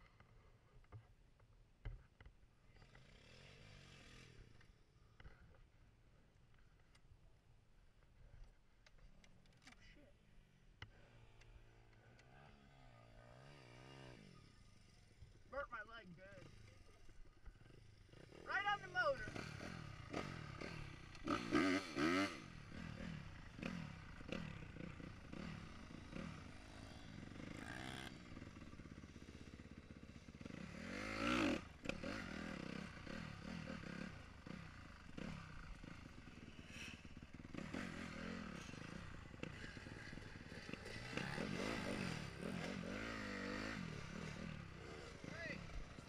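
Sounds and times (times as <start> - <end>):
dirt bike engine revving: 2.8 - 4.6, 11.0 - 46.0.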